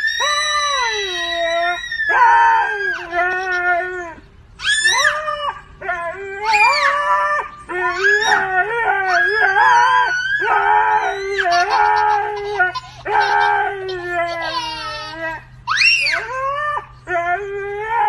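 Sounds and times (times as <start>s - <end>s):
husky howling: 0.0s - 18.0s
toddler howling: 0.0s - 18.0s.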